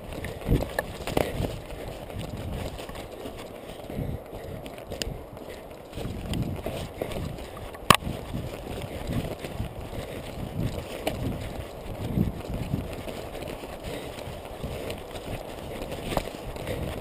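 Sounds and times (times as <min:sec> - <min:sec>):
footfalls through undergrowth: 0:00.0 - 0:17.0
shrubs rustling and brushing: 0:00.0 - 0:17.0.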